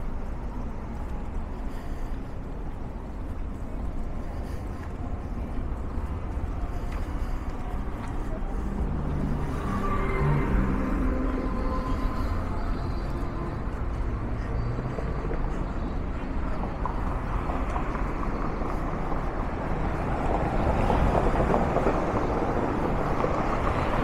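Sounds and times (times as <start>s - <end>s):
traffic rumble and hiss: 0.0s - 24.0s.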